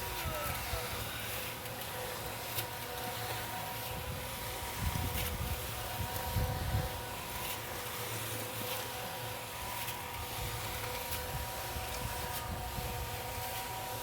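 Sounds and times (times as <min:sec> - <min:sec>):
concrete mixer running: 0:00.0 - 0:14.0.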